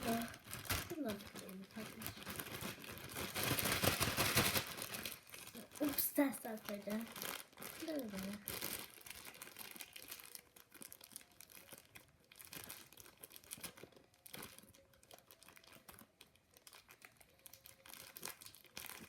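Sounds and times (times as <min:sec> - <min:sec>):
plastic package crinkling: 0:00.0 - 0:19.0.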